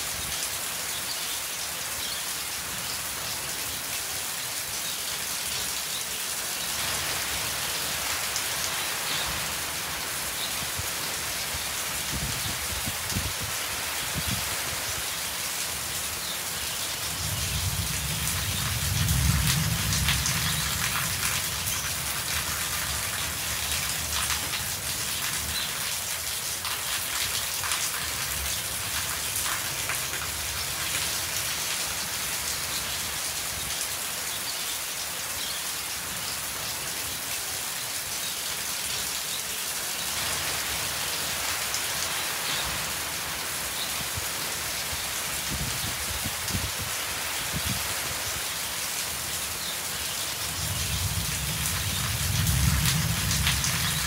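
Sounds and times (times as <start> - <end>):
rain on tin roofs: 0.0 - 54.0.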